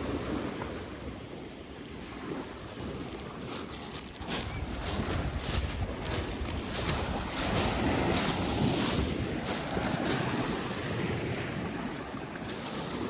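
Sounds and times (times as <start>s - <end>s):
wind buffeting microphone: 1.9s - 13.0s.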